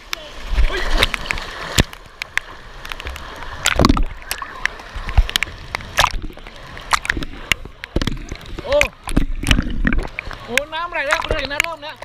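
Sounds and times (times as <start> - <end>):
sharp splashes: 0.0 - 12.0
water sloshing in a stream: 0.0 - 12.0.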